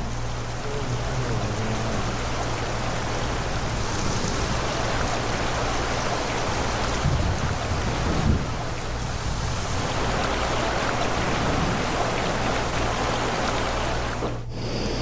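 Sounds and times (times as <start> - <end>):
rushing floodwater and rain: 0.0 - 14.5.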